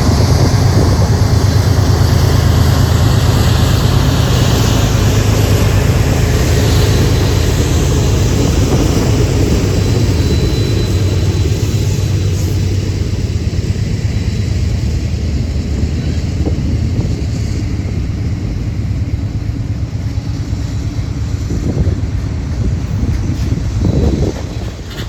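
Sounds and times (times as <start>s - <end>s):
locomotives rumbling: 0.0s - 25.0s
wind buffeting microphone: 0.0s - 25.0s.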